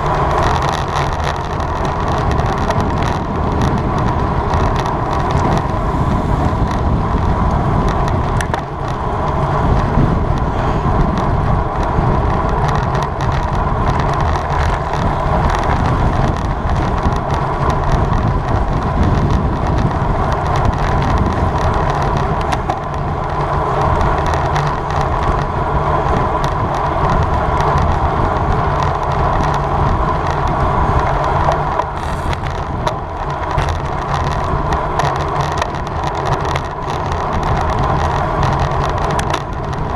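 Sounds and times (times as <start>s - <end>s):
bicycle tyre noise: 0.0s - 39.9s
wind rush: 0.0s - 39.9s.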